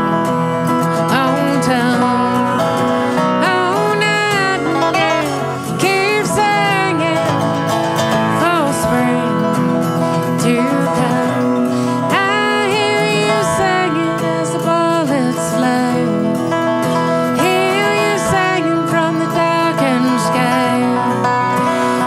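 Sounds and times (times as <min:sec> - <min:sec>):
acoustic guitar: 0:00.0 - 0:22.0
slide dobro: 0:00.0 - 0:22.0.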